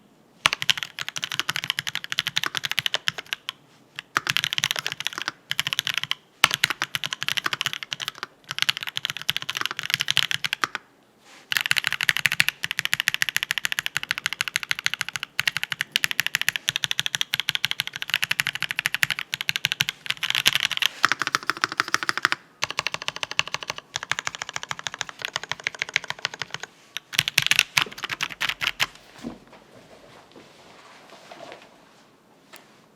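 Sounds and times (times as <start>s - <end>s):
mechanical keyboard typing: 0.4s - 10.8s, 11.5s - 28.9s.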